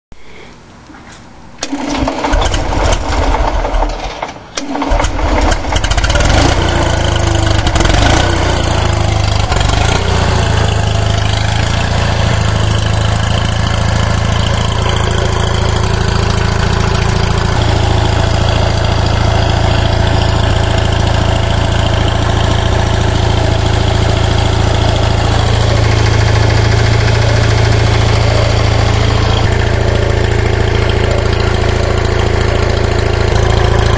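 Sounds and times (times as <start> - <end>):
generator running with low hum: 0.2 - 33.9.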